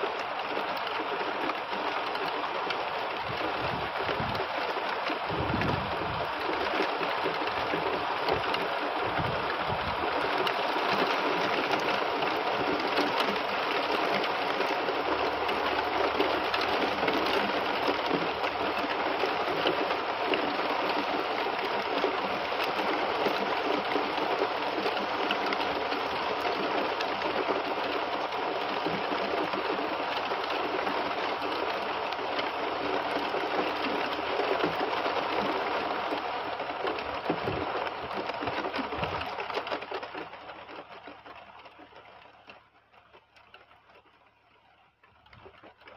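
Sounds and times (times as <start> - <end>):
heavy rain on trees: 0.0 - 45.9.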